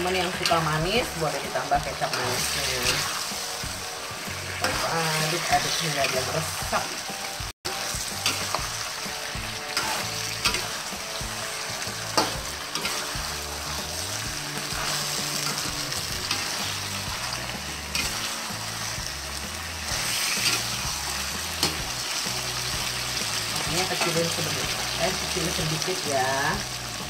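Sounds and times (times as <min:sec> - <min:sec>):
shrimp sizzling in a wok: 0:00.0 - 0:27.0.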